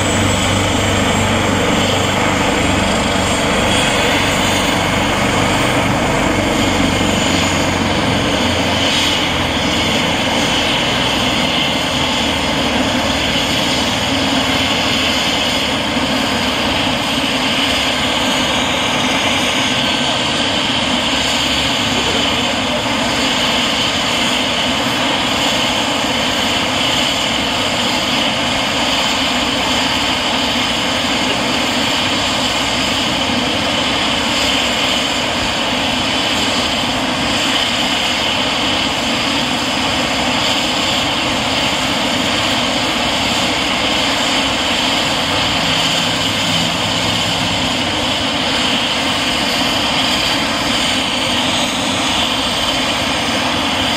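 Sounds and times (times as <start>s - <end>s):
helicopter rotor noise: 0.0s - 53.9s
helicopter turbine whine: 0.0s - 53.9s.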